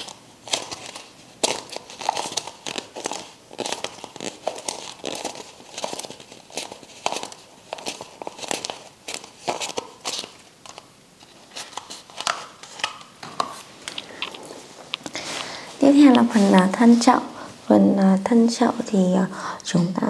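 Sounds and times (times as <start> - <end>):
paper and cardboard crinkling: 0.0 - 17.0.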